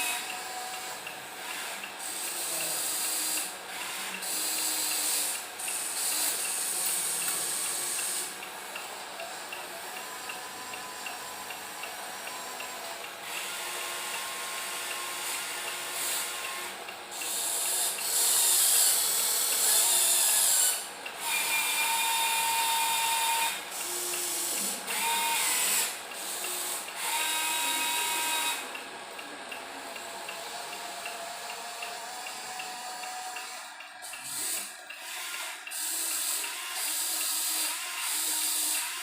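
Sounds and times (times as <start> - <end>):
small electric motors whirring: 0.0 - 39.0.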